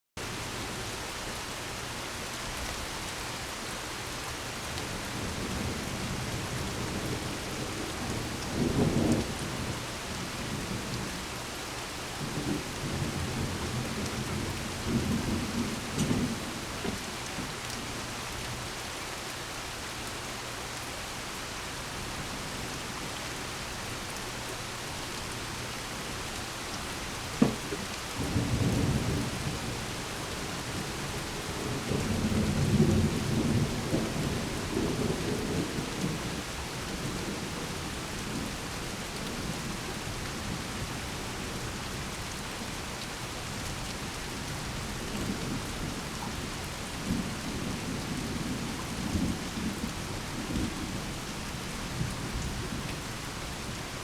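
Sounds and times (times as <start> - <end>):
steady rain hiss: 0.2 - 54.0.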